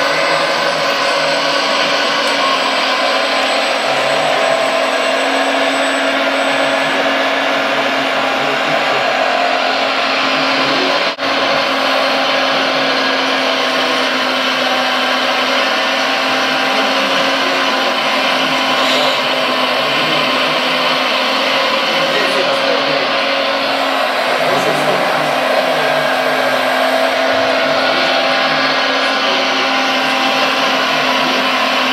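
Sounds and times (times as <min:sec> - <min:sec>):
motor and hydraulic pump whine: 0:00.0 - 0:31.9
simulated diesel engine sound: 0:00.0 - 0:31.9.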